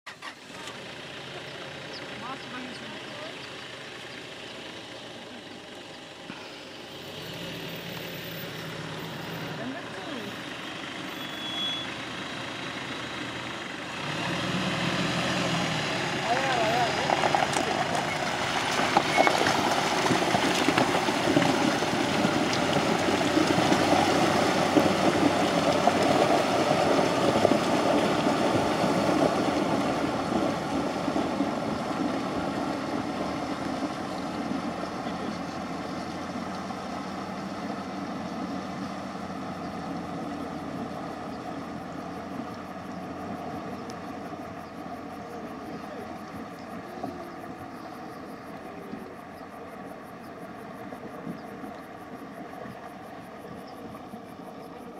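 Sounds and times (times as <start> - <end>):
van engine running: 0.0 - 54.9
water churning around wheels: 0.1 - 54.9.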